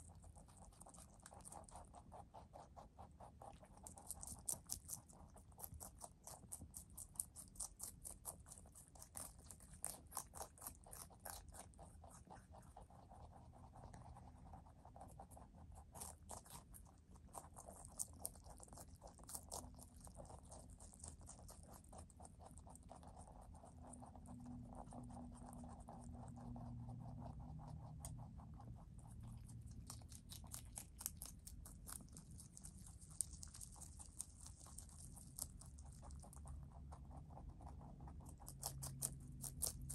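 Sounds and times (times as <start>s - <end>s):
faint low hum: 0.0s - 39.9s
rabbits chewing greens: 0.0s - 39.9s.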